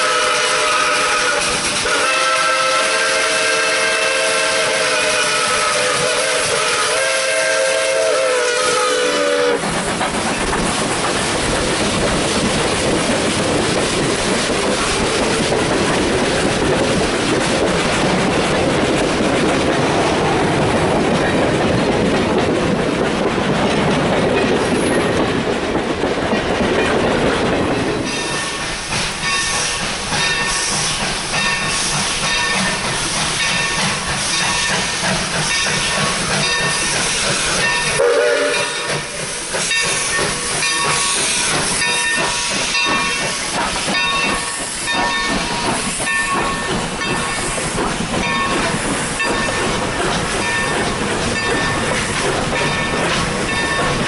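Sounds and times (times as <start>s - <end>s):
steam hissing: 0.0s - 20.9s, 28.0s - 54.0s
train coaches rumbling past: 0.0s - 54.0s
wheels clicking over rail joints: 9.2s - 54.0s.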